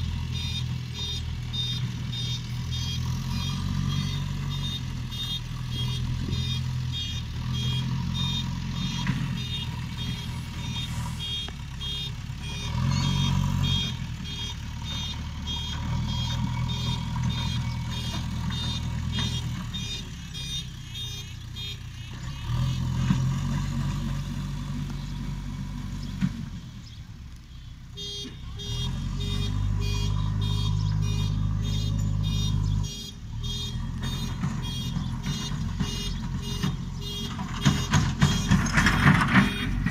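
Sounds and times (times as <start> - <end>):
reversing alarm beeping: 0.0 - 23.7, 27.9 - 39.9
diesel engine revving: 0.0 - 39.9.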